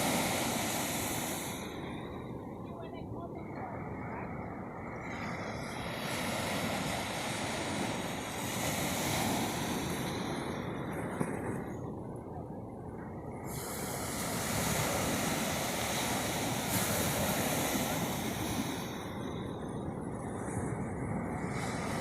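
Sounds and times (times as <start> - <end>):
ocean waves washing: 0.0 - 22.0
wave surging in: 0.0 - 22.0.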